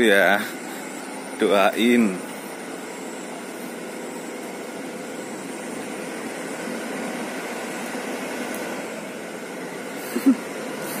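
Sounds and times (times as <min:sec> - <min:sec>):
mechanical drone with hiss: 0:00.0 - 0:11.0.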